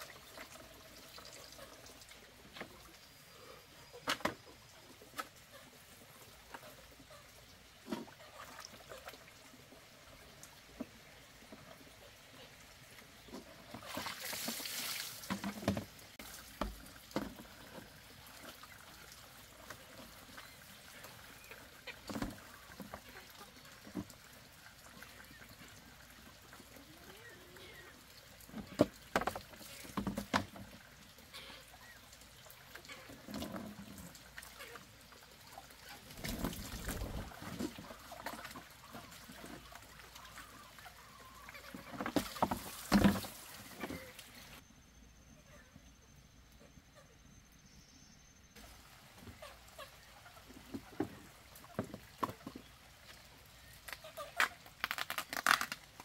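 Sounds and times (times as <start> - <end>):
water splashing and trickling: 0.0 - 44.6, 48.6 - 56.0.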